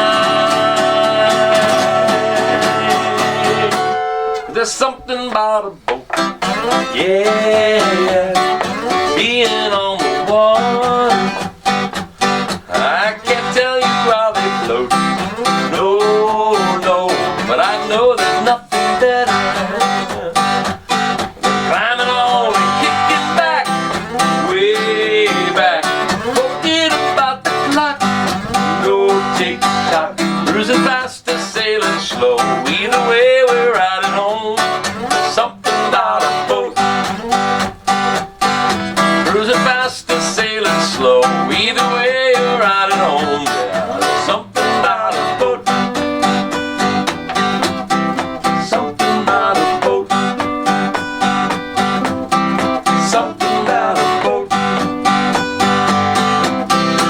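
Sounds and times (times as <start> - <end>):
country band playing: 0.0 - 57.0.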